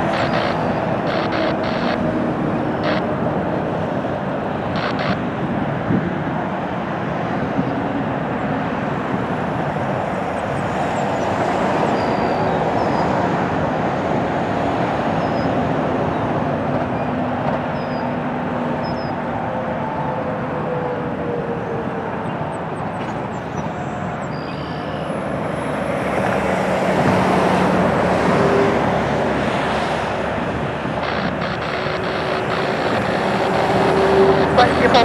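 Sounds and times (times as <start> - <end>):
jet engines at takeoff: 0.0 - 35.0.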